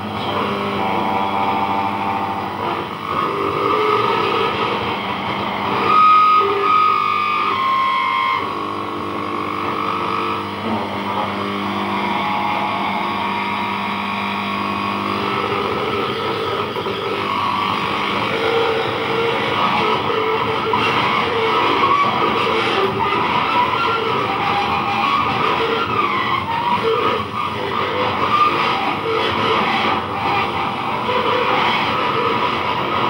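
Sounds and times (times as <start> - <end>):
distorted radio music: 0.0 - 33.0
steady hum: 0.0 - 33.0.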